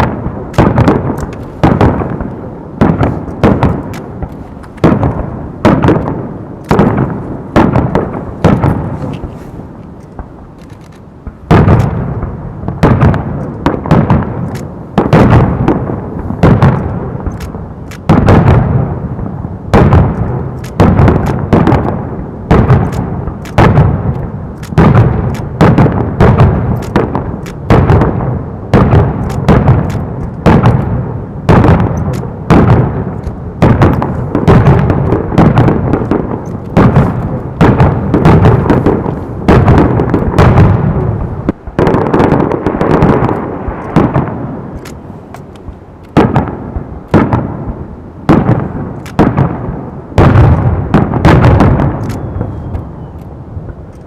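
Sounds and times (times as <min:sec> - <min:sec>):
fireworks booming and cracking: 0:00.0 - 0:53.8.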